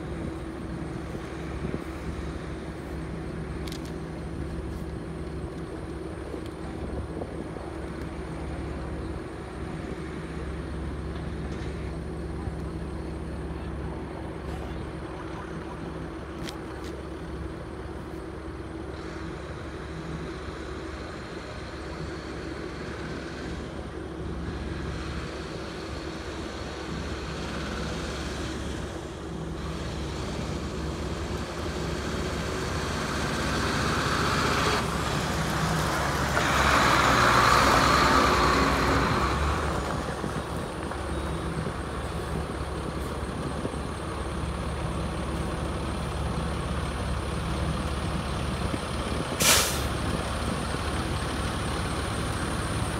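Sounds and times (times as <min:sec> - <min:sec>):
dump truck engine running: 0:00.0 - 0:52.9.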